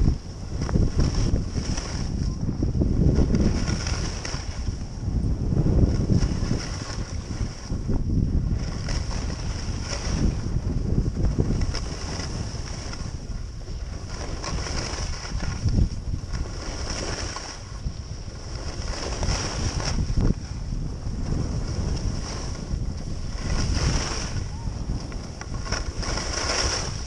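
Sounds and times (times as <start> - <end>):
skis scraping on snow: 0.0 - 27.0
wind buffeting microphone: 0.0 - 27.0.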